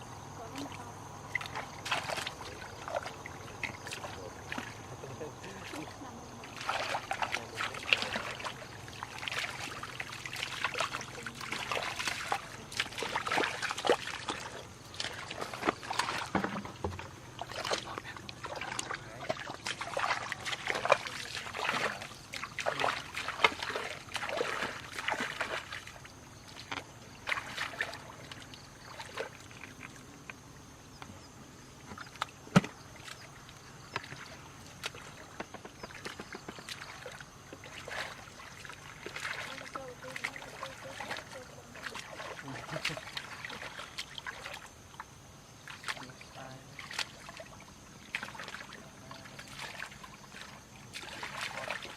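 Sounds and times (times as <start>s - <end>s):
water splashing and sloshing: 0.0s - 51.9s.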